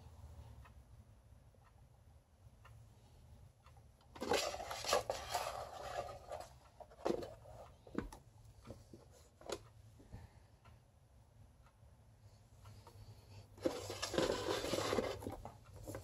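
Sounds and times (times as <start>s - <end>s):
table fan humming: 0.0s - 16.0s.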